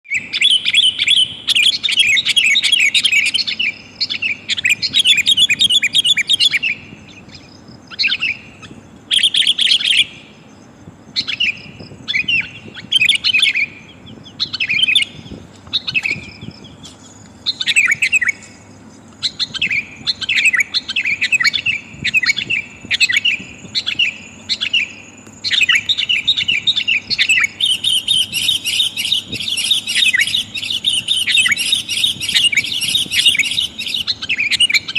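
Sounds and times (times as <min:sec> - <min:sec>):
bulbul chattering calls: 0:00.1 - 0:34.9.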